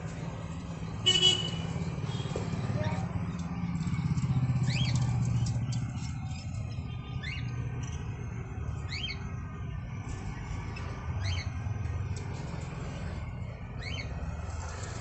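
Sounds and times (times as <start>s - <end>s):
vehicle traffic rumble: 0.0s - 15.0s.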